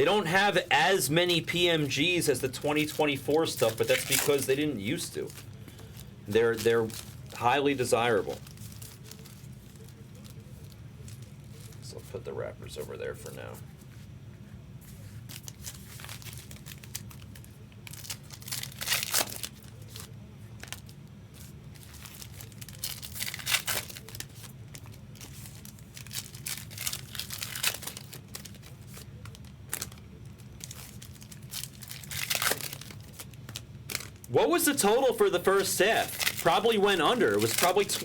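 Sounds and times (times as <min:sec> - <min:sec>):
wrappers tearing and crinkling: 0:00.0 - 0:12.0, 0:15.2 - 0:38.0
low background hum: 0:00.0 - 0:38.0.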